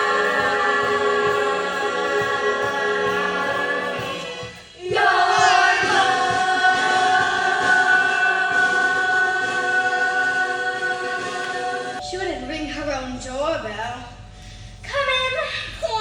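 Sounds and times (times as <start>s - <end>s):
ensemble singing held chords: 0.0s - 14.9s.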